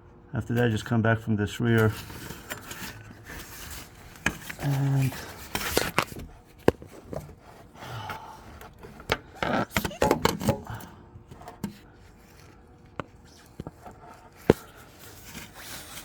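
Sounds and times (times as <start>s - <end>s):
tools clicking knocking and scraping: 1.8s - 16.0s.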